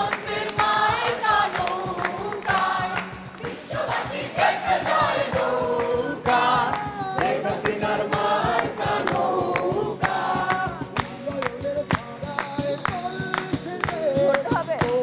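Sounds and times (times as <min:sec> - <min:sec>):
group singing in chorus: 0:00.0 - 0:14.0
acoustic guitar: 0:00.0 - 0:15.0
people clapping along: 0:00.0 - 0:15.0.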